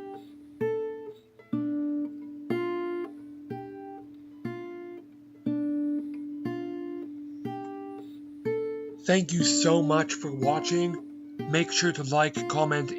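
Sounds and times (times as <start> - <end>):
acoustic guitar picking notes: 0.0 - 12.9.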